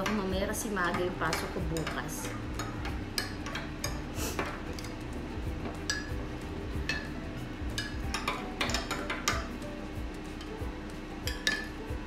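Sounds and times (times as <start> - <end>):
dishes and cutlery clinking: 0.0 - 9.6, 10.3 - 12.0.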